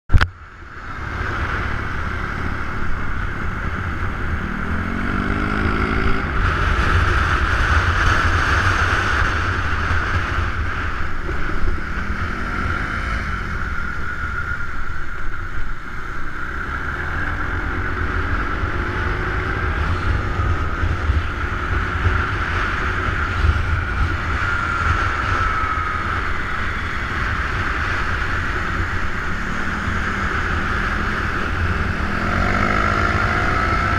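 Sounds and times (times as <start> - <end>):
wind rumble on microphone: 0.1 - 33.9
motorbike engine revving: 1.0 - 14.6, 16.4 - 33.9.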